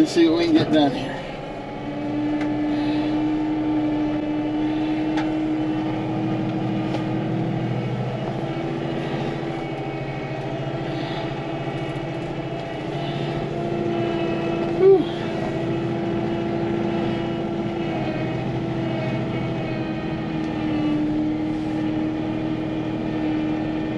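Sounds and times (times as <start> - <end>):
tractor engine droning: 0.0 - 23.9.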